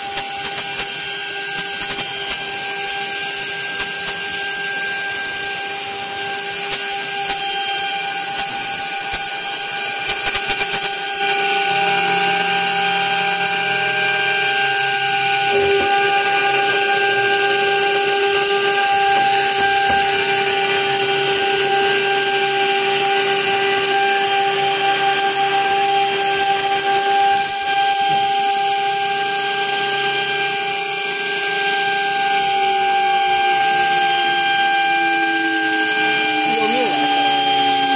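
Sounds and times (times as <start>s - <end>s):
machine whining hum: 0.0s - 37.9s.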